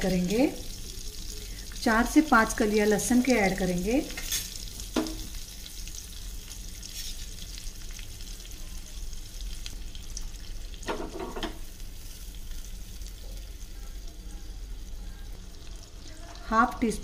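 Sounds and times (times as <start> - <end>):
garlic sizzling in butter: 0.0 - 17.0.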